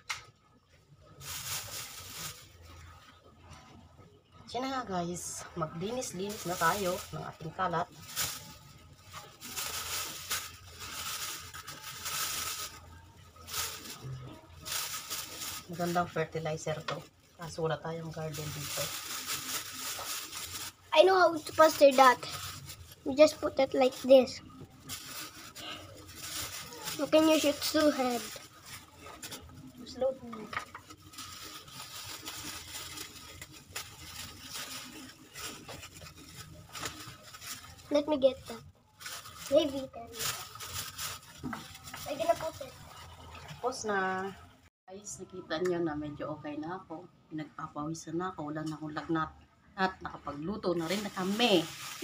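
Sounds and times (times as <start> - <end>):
banana peels rustling and scraping: 0.9 - 4.0, 5.6 - 44.0, 50.8 - 52.0.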